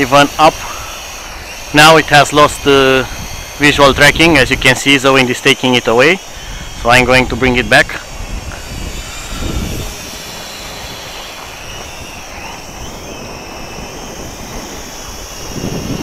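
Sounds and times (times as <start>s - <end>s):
wind buffeting microphone: 0.0s - 5.2s, 6.2s - 16.0s
distant quadcopter motors whining: 0.0s - 16.0s.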